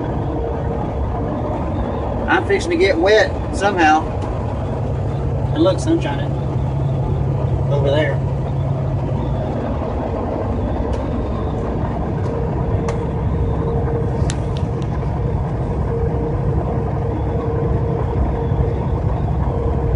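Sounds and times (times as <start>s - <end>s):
road and engine rumble in car: 0.0s - 19.9s.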